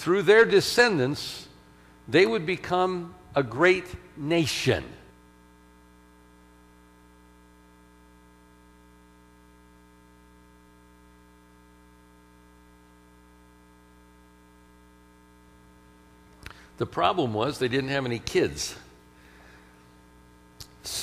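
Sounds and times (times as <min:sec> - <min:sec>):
faint electrical mains hum: 0:00.0 - 0:21.0.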